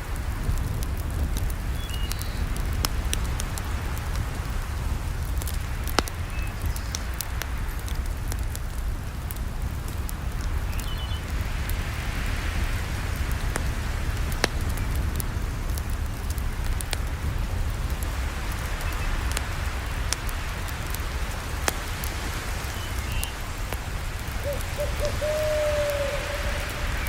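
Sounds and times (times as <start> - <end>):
campfire crackling and hissing: 0.0 - 27.0.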